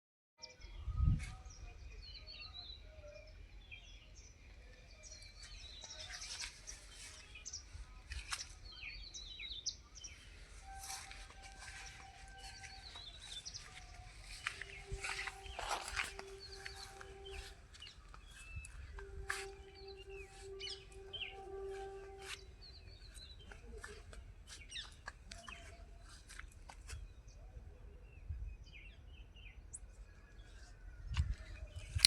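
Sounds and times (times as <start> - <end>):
small birds chirping and trilling: 0.6 - 32.0.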